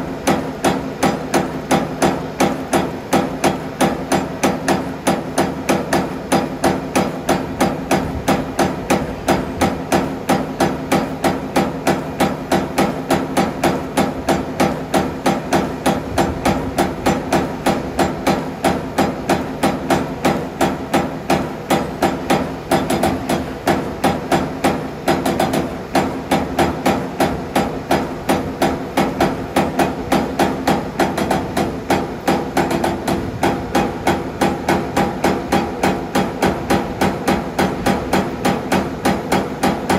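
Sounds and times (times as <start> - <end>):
punch press punching sheet metal: 0.0 - 39.9.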